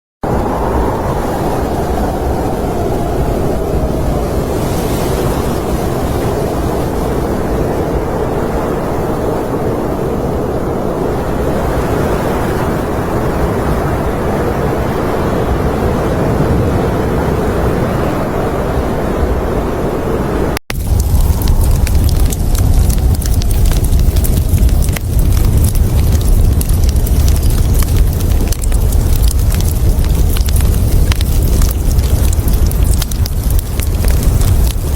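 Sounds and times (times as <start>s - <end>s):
snowstorm wind rushing: 0.2s - 34.9s.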